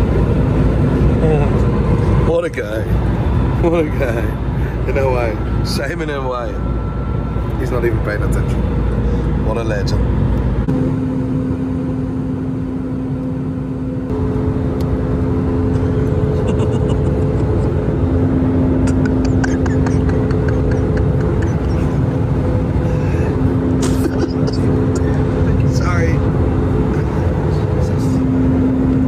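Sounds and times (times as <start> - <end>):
airliner engine drone: 0.0 - 29.0.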